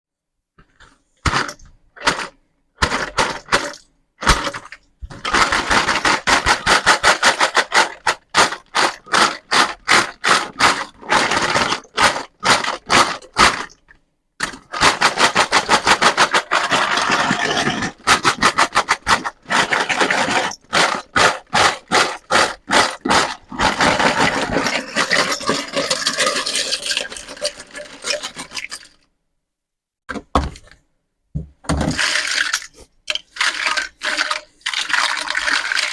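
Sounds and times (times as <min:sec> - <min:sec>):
small toys scraping and rattling: 0:01.2 - 0:13.8, 0:14.4 - 0:29.0, 0:31.8 - 0:35.9.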